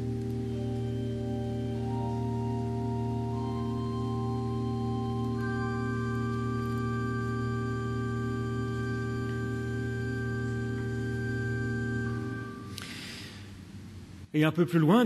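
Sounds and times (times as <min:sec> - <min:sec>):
church organ chords: 0:00.0 - 0:13.0.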